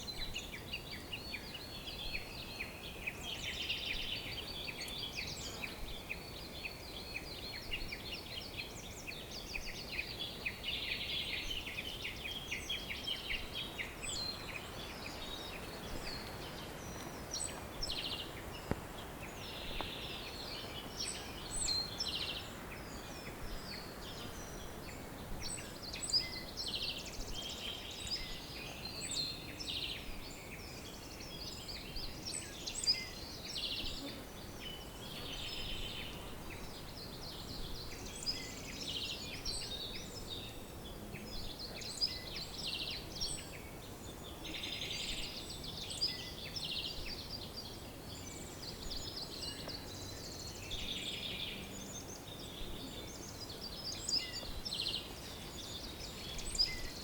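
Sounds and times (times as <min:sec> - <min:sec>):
faint steady hiss: 0:00.0 - 0:57.0
songbirds singing and chirping: 0:00.0 - 0:57.0.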